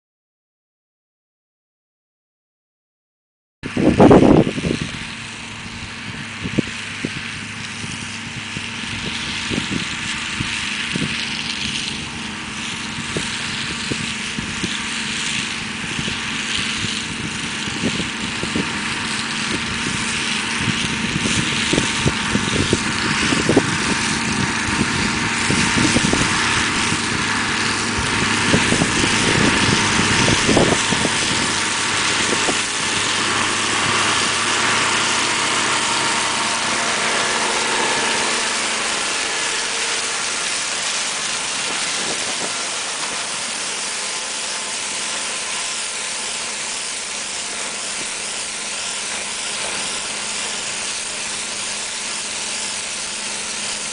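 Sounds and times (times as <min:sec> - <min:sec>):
tractor diesel engine: 0:03.6 - 0:53.9
shredder chopping stalks: 0:03.7 - 0:53.9.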